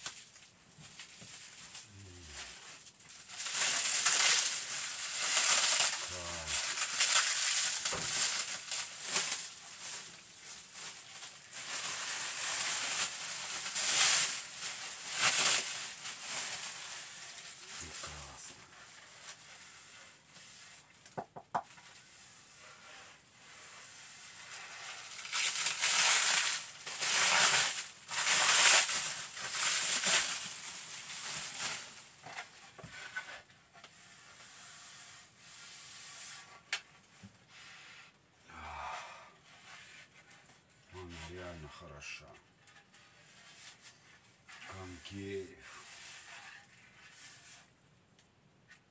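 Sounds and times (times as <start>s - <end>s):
bubble wrap crinkling: 0.0s - 47.8s.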